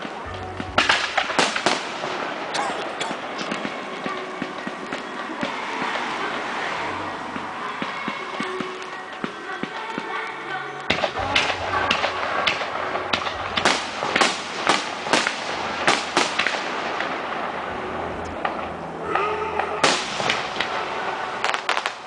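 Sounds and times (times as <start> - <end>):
fireworks bursting with sharp bangs: 0.0 - 22.0
fireworks rumble: 0.0 - 22.0.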